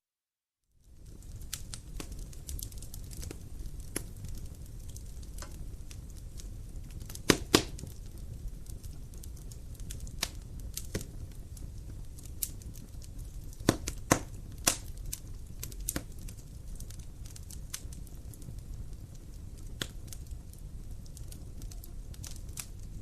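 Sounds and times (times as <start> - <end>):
wood fire crackling: 0.7 - 23.0
sharp pops of fire: 0.9 - 23.0.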